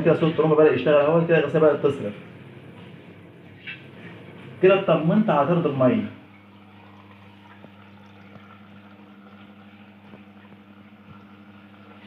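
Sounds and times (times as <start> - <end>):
washing machine drain pump humming: 0.0 - 12.0.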